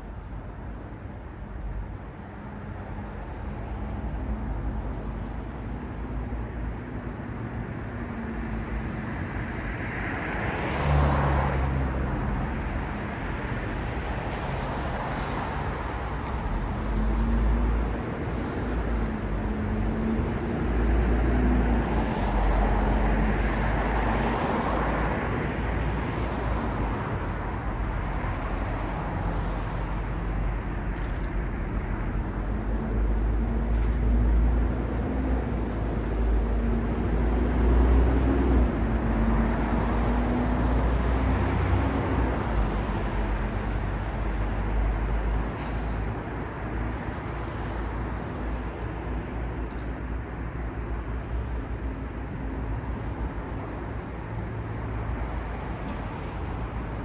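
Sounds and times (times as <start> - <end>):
road noise: 0.0 - 57.0
vehicles passing with engine hum: 0.1 - 57.0.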